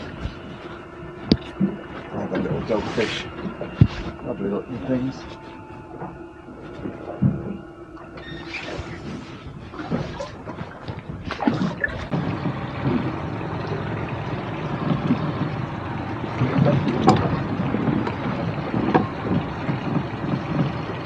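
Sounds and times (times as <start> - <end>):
water lapping around boat: 0.0 - 21.0
wind: 0.0 - 21.0.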